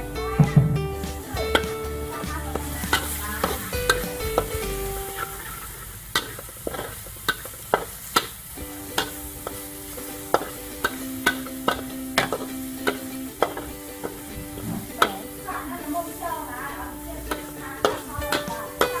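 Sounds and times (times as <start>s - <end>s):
low sizzle: 0.0s - 19.0s
metal spatula clacking on wok: 1.4s - 14.2s, 16.4s - 19.0s.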